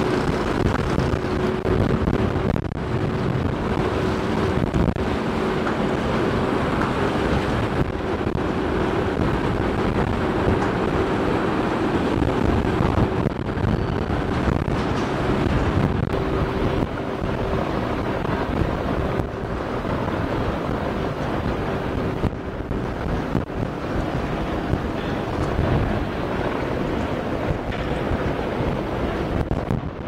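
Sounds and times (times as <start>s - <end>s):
ferry engine drone: 0.0s - 30.0s
water churning: 0.0s - 30.0s
wind buffeting microphone: 0.0s - 30.0s.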